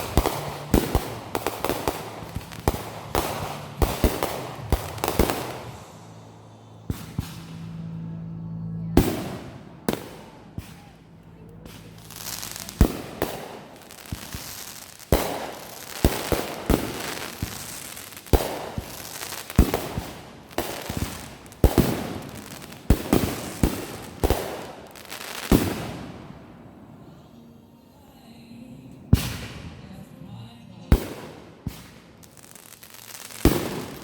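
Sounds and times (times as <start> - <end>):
fireworks bangs: 0.0 - 8.2, 9.0 - 27.0, 29.1 - 30.1, 30.9 - 34.0
fireworks crackling: 0.0 - 8.4, 9.0 - 27.0, 29.1 - 34.0.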